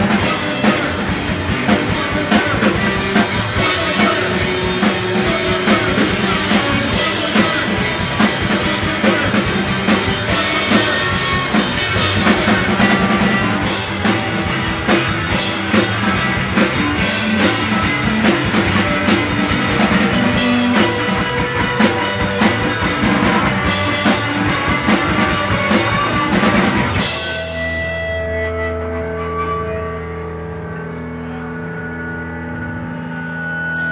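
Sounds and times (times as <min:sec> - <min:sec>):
drum kit: 0:00.0 - 0:29.0
rock band playing live: 0:00.0 - 0:33.9.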